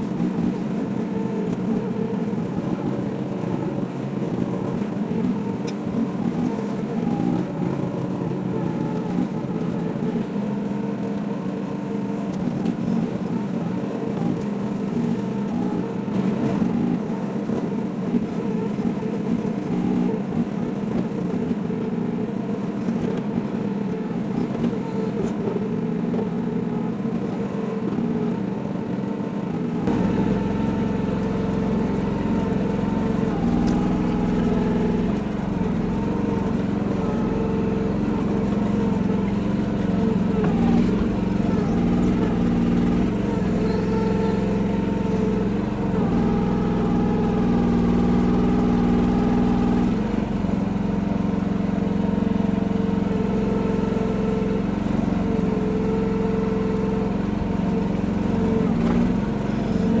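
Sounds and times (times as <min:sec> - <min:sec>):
excavator engine running: 0:00.0 - 1:00.0.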